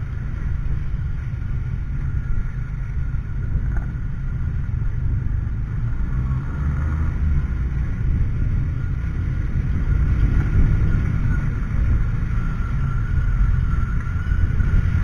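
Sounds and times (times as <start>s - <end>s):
motorcycle engine rumble: 0.0s - 15.0s
wind and road noise: 0.0s - 15.0s.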